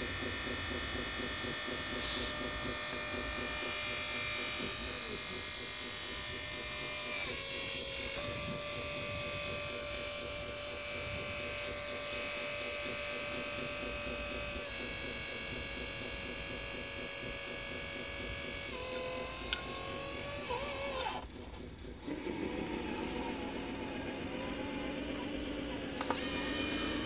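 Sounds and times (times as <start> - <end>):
hydraulic pump motor whining: 0.0 - 27.0.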